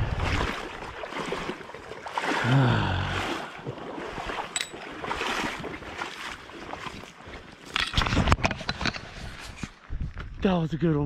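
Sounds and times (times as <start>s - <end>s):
river water splashing and running: 0.0s - 9.6s.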